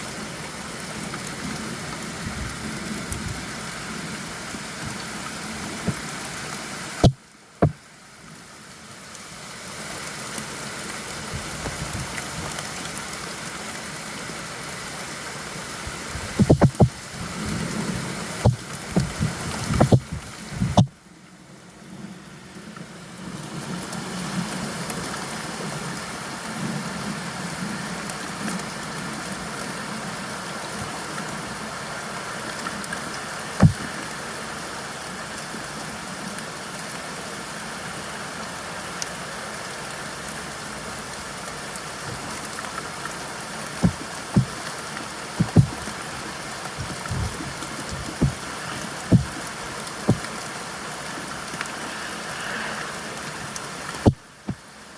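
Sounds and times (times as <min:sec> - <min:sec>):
raindrops striking close by: 0:00.0 - 0:54.9
steady rainfall hiss: 0:00.0 - 0:54.9.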